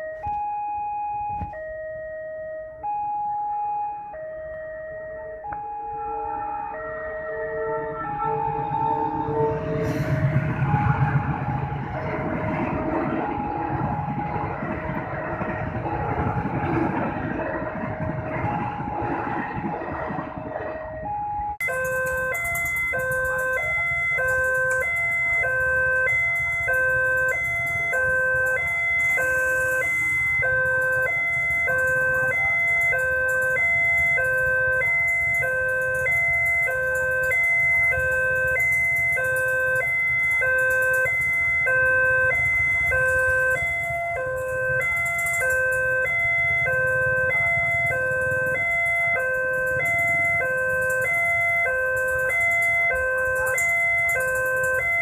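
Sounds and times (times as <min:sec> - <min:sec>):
two-tone crossing alarm: 0:00.0 - 0:55.0
low traffic noise: 0:04.2 - 0:55.0
passenger train passing: 0:05.2 - 0:38.9, 0:39.6 - 0:54.2.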